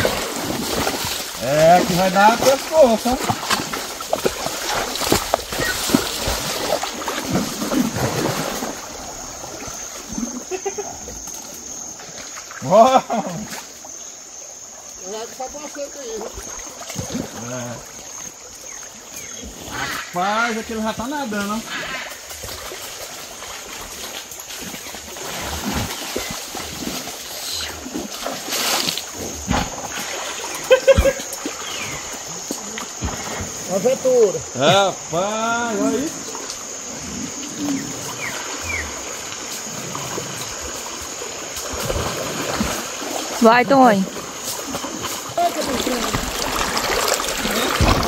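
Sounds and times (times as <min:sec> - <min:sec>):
high insect tone: 0:00.0 - 0:48.0
water splashing and sloshing: 0:00.0 - 0:48.0.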